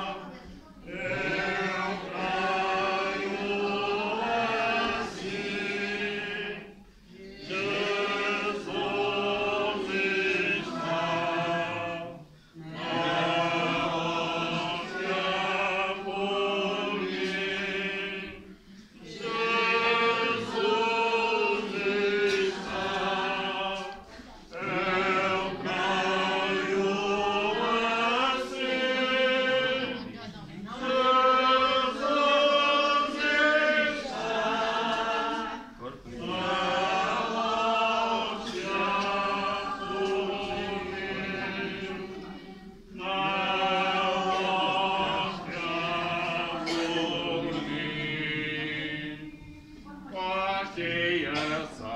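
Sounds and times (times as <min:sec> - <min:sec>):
group singing a hymn: 0:00.0 - 0:51.9.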